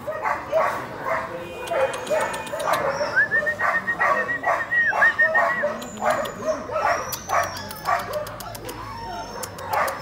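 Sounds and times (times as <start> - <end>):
puppies yipping: 0.0 - 10.0.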